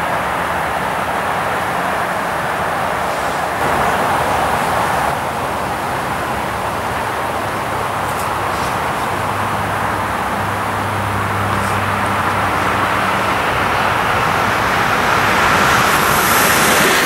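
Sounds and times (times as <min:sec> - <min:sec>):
trains rolling: 0:00.0 - 0:17.0.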